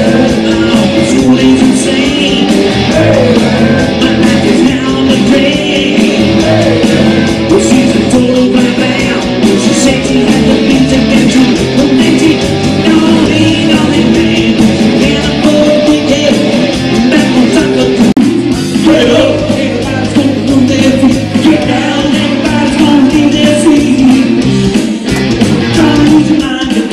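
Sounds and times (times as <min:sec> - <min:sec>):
man singing: 0:00.0 - 0:24.6, 0:25.6 - 0:26.9
bass guitar: 0:00.0 - 0:26.9
drums: 0:00.0 - 0:26.9
electric guitar: 0:00.0 - 0:26.9.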